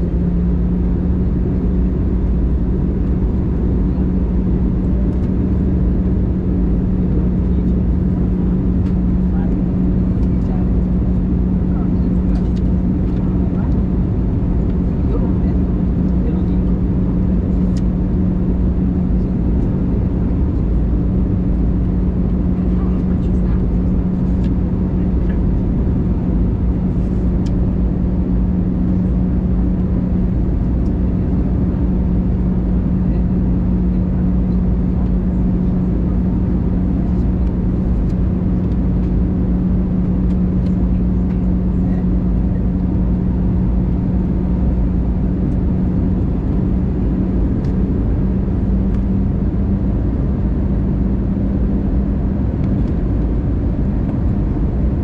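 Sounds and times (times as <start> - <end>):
airplane cabin rumble: 0.0 - 55.0
steady hum: 0.0 - 55.0.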